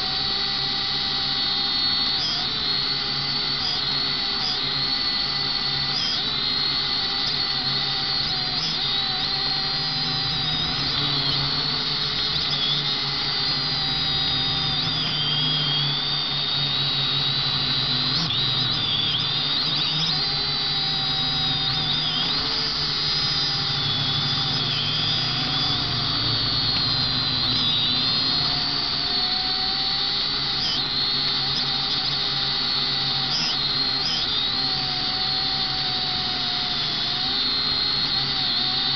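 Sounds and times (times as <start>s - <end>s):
drone motors whining: 0.0s - 38.9s.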